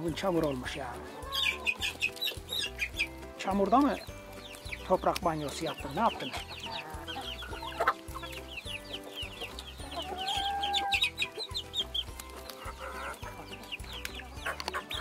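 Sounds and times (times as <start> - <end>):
chicks peeping: 0.0 - 15.0
hens clucking: 0.0 - 15.0.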